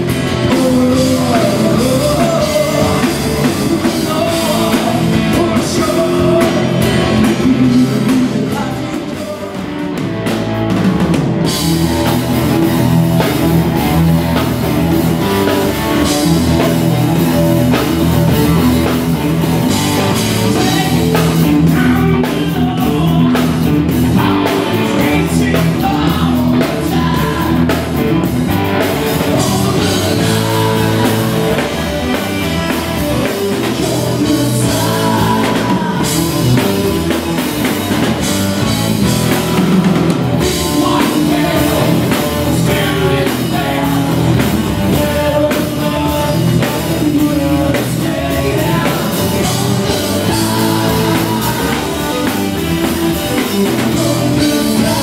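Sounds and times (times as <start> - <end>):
man singing: 0.0 - 10.4, 11.4 - 55.0
distorted electric guitars: 0.0 - 55.0
drum kit: 0.0 - 55.0
electric bass: 0.0 - 55.0.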